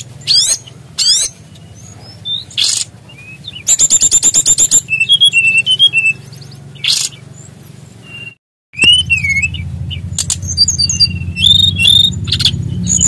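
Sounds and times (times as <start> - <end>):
songbird singing: 0.0 - 13.0
steady low hum: 0.0 - 13.0.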